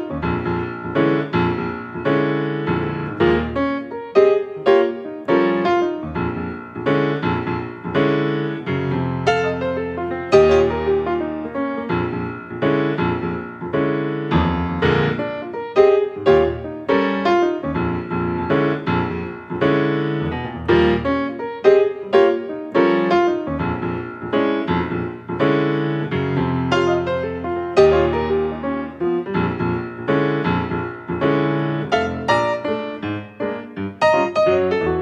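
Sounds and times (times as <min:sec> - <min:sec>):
piano music: 0:00.0 - 0:35.0.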